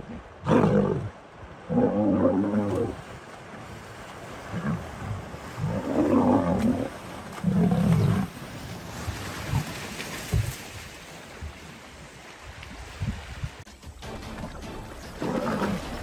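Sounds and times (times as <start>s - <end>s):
splashing in shallow water: 0.0s - 16.0s.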